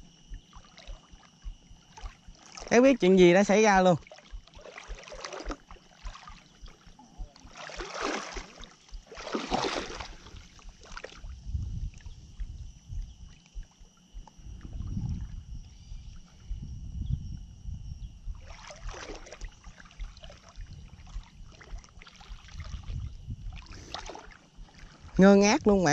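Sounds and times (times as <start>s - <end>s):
water sloshing against boat: 0.0s - 25.9s
wind rumble on microphone: 0.0s - 25.9s.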